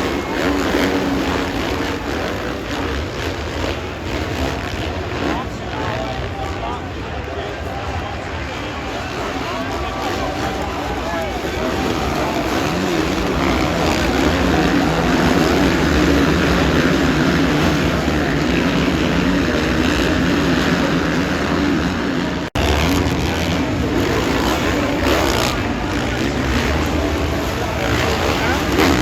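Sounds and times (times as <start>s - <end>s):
dirt bike engines racing: 0.0s - 29.0s.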